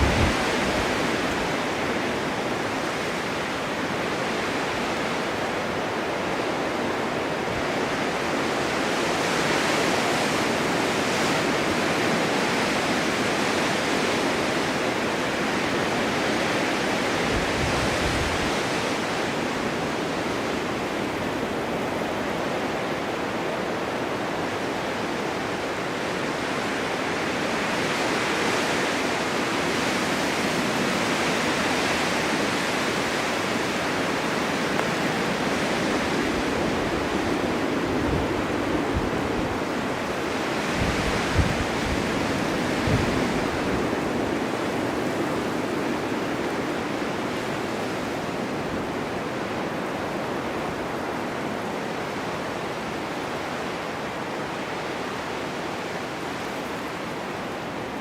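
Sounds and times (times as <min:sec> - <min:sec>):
blizzard wind hissing: 0:00.0 - 0:54.4.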